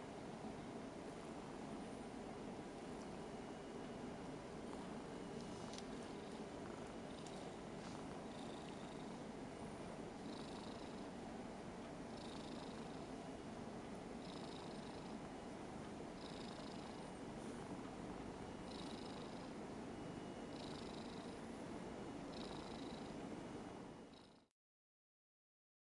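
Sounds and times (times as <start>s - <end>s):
cat purring: 0.7s - 19.6s, 20.5s - 21.6s, 22.2s - 23.2s, 24.1s - 24.5s.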